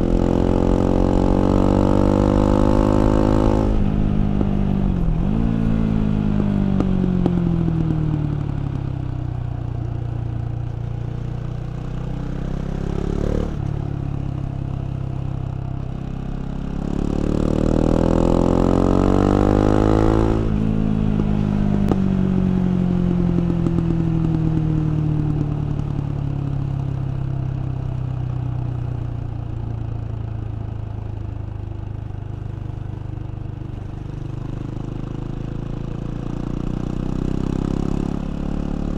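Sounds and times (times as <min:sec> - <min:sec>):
motorcycle engine revving: 0:00.0 - 0:29.7, 0:32.1 - 0:38.9.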